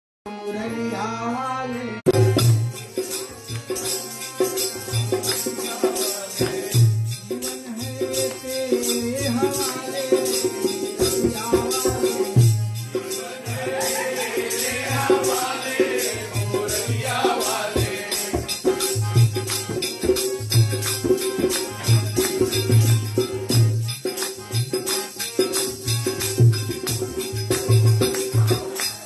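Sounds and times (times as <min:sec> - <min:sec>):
harmonium chords: 0:00.3 - 0:29.0
dholak drum beat: 0:02.1 - 0:29.0
jingling hand percussion: 0:02.1 - 0:29.0.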